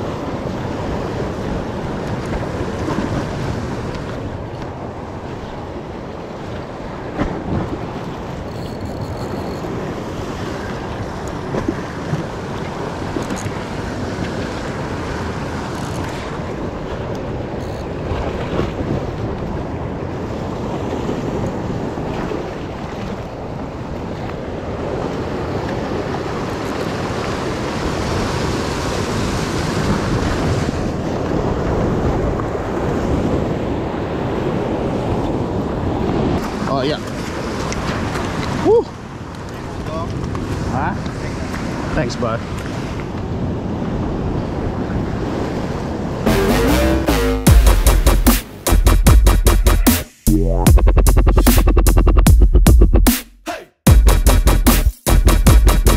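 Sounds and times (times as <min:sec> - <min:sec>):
surf washing over rocks: 0:00.0 - 0:08.5, 0:09.7 - 0:46.3.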